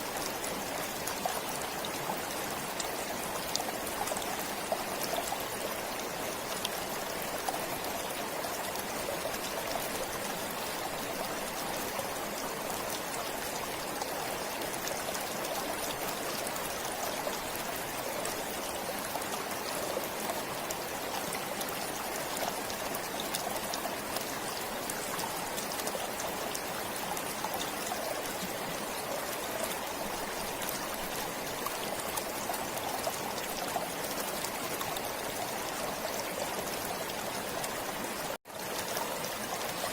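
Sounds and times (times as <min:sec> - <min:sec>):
water stream flowing: 0:00.0 - 0:39.9.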